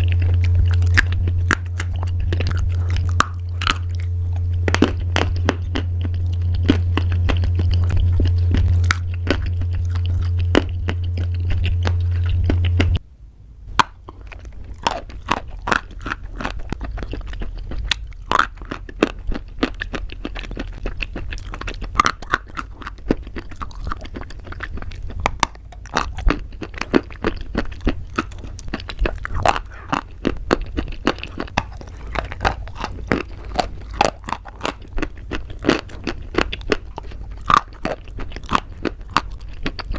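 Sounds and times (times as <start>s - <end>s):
crunchy pasta chewing: 0.0s - 13.0s, 13.7s - 39.9s
loud steady low hum: 0.0s - 39.9s.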